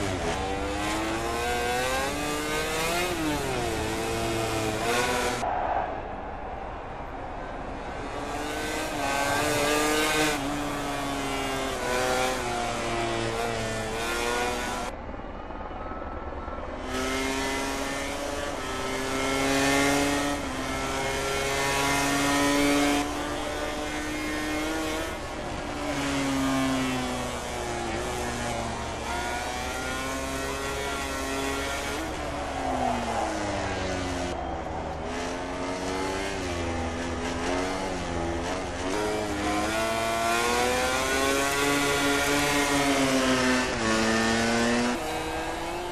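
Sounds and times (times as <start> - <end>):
racing motorcycle engines revving: 0.0 - 6.0, 6.8 - 15.0, 16.3 - 45.9.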